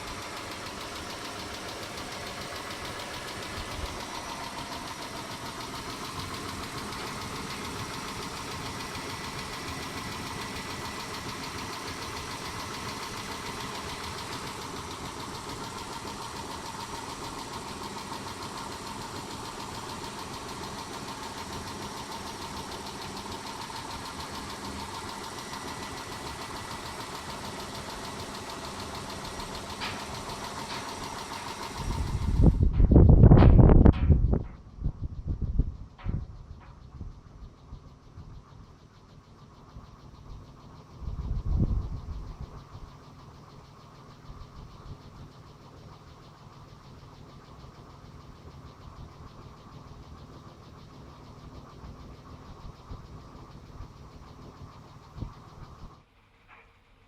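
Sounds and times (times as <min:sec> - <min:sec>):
fast even engine ticking: 0:00.0 - 0:56.1
car engine idling: 0:00.0 - 0:57.0.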